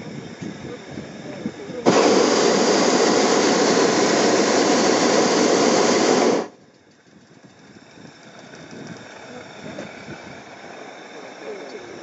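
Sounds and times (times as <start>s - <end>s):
propane burner blast: 0.0s - 12.0s.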